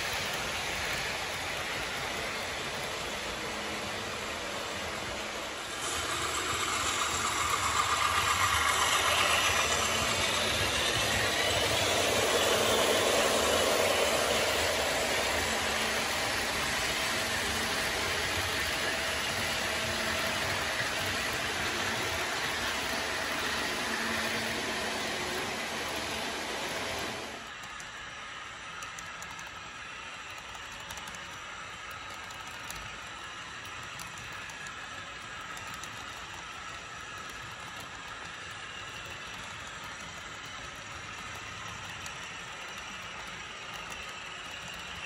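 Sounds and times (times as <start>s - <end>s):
model train diesel engine sound: 0.0s - 45.0s
wheels rolling on track: 0.0s - 45.0s.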